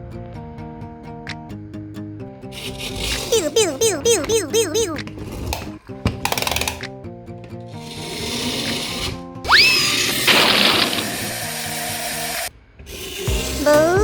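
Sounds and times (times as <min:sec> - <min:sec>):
cartoon background music: 0:00.6 - 0:12.5, 0:13.2 - 0:14.0.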